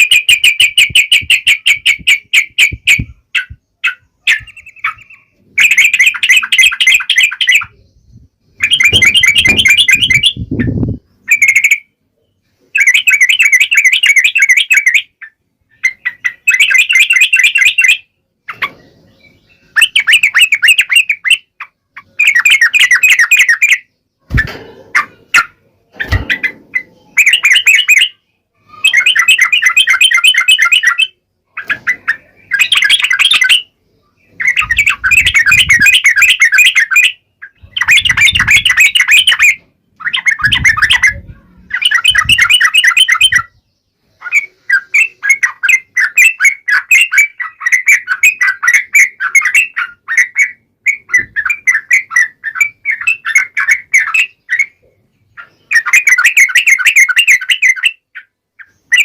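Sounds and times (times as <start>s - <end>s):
bird singing chattering phrases: 0.0s - 59.0s.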